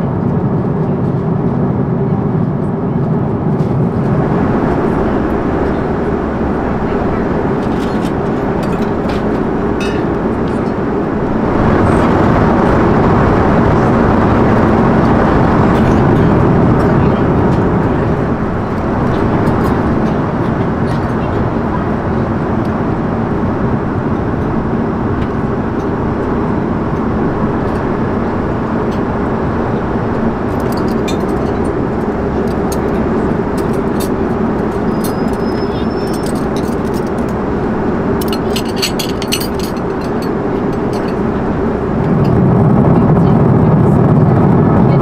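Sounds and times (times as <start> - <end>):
airplane cabin noise: 0.0 - 45.0.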